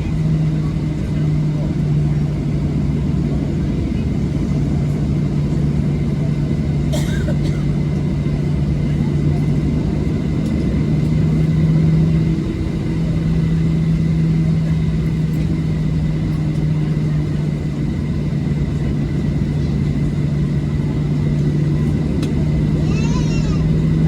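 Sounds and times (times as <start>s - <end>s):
jet engine hum and rumble: 0.0s - 24.0s.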